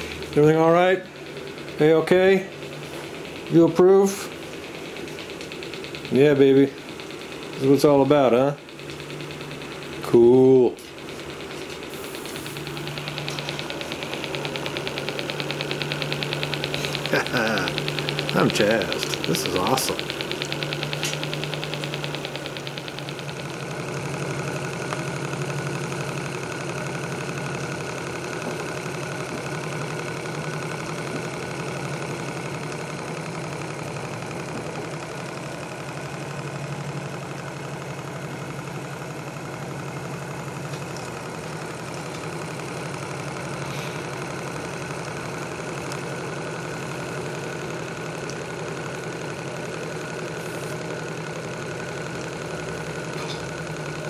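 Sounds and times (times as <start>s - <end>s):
model steam engine running: 0.0s - 54.0s.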